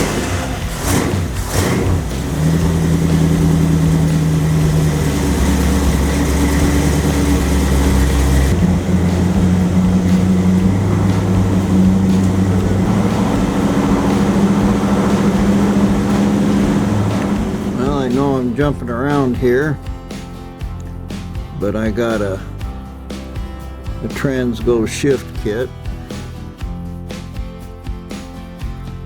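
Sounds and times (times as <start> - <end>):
hot rod engine idling: 0.0 - 23.3.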